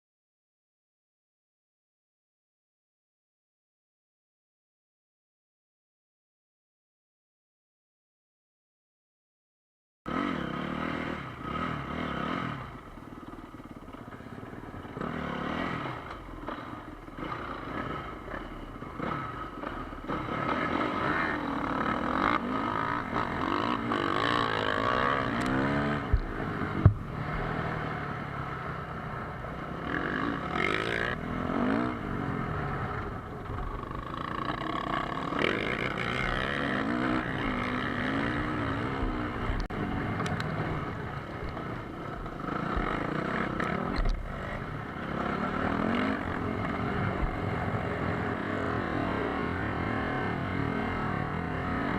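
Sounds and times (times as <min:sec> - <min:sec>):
dirt bike engines revving: 0:10.1 - 0:51.9.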